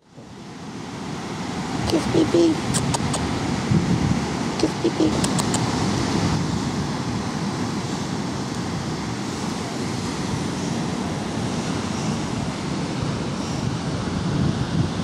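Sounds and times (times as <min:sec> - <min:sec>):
ocean surf: 0:00.0 - 0:15.0
wind rumbling on microphone: 0:00.0 - 0:15.0.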